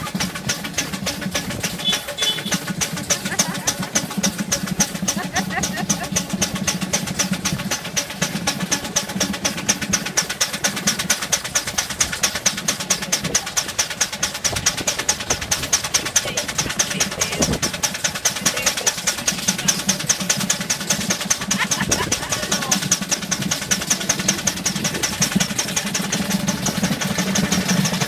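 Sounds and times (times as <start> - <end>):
steam engine exhaust chuffing: 0.0 - 28.0
steady low rumble: 2.6 - 27.9.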